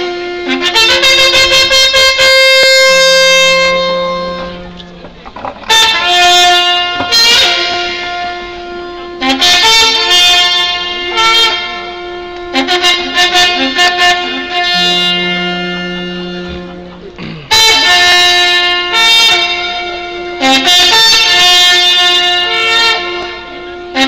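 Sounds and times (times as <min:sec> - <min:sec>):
wooden horns playing: 0:00.0 - 0:24.0.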